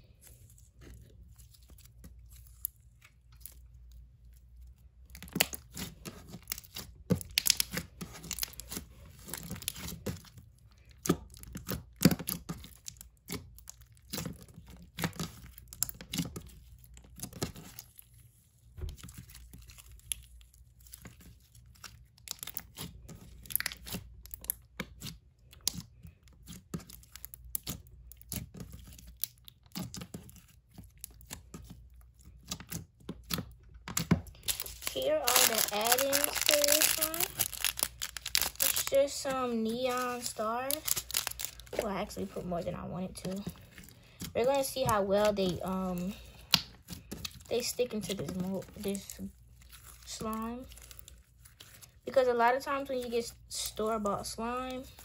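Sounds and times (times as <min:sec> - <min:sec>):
slime squished by hand: 0:00.2 - 0:53.5.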